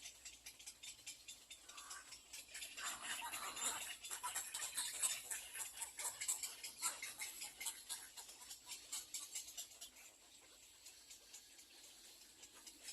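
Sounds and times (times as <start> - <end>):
bird chicks clicking: 0.0 - 12.9.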